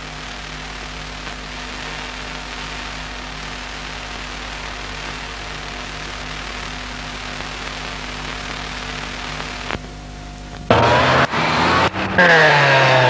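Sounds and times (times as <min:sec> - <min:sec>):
steady hiss: 0:00.0 - 0:11.4
faint steady tones: 0:00.0 - 0:12.5
low hum: 0:00.0 - 0:13.0.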